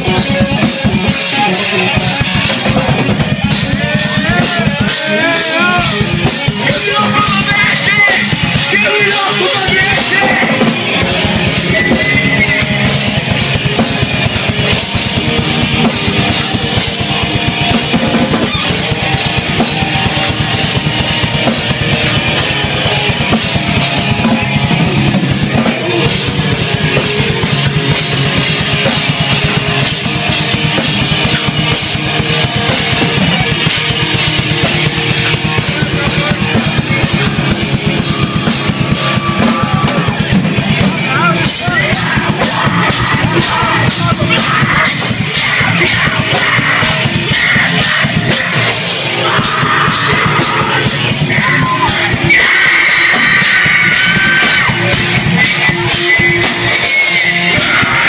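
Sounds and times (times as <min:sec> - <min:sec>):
electric guitar: 0:00.0 - 0:58.0
live rock band playing: 0:00.0 - 0:58.0
pounding drum kit: 0:00.0 - 0:58.0.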